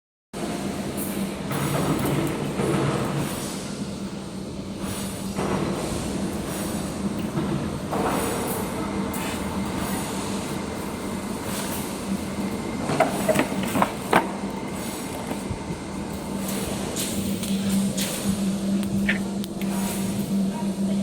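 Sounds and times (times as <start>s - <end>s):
industrial machinery hum: 0.4s - 21.0s.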